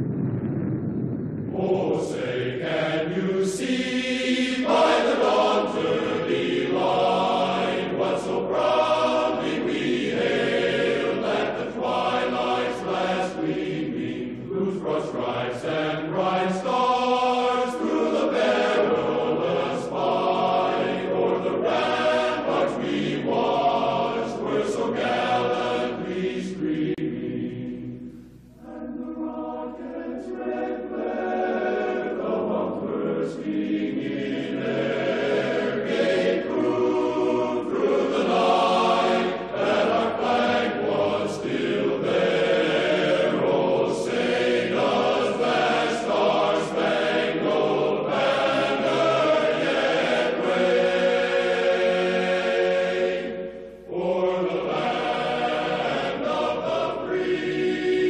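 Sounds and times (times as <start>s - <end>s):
choir singing held chords: 1.5s - 58.0s.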